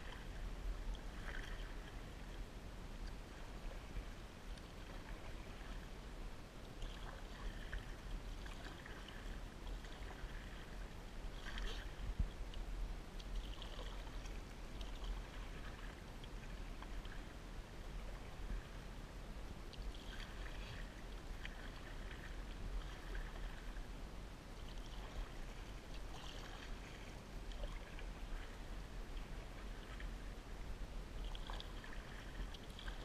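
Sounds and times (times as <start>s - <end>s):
paddle strokes splashing: 0.0s - 18.8s, 19.6s - 33.0s
steady low rumble: 0.0s - 33.0s
water lapping on hull: 0.0s - 33.0s.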